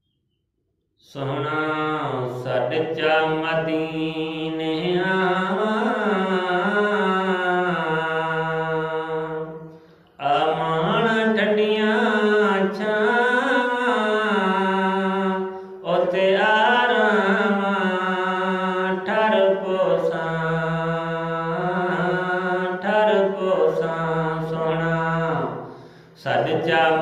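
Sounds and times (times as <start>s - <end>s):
man singing unaccompanied: 1.0s - 9.6s, 10.2s - 27.0s.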